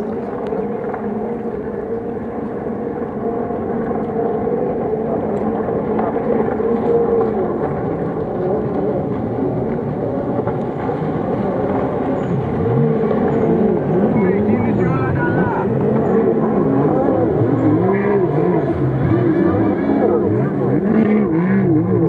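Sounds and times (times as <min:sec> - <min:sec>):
jet ski engines whining: 0:00.0 - 0:22.0.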